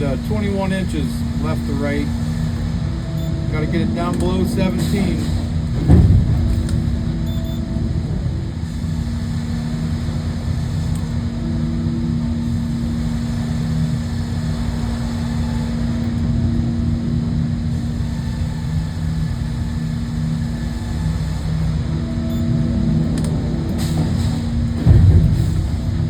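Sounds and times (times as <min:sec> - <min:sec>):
sawmill engine humming: 0:00.0 - 0:26.0.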